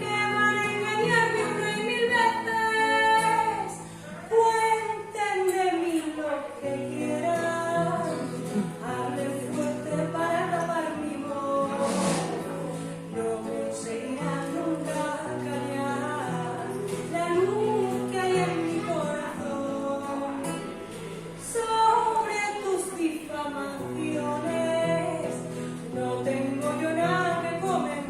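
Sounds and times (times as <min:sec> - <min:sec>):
woman singing: 0:00.0 - 0:28.0.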